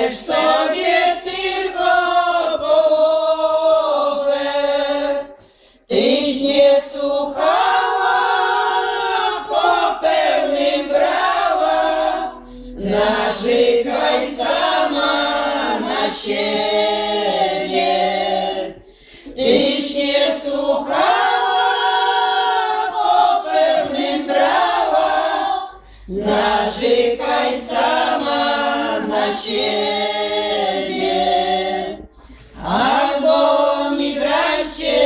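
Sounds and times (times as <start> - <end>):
women singing unaccompanied: 0.0 - 35.0.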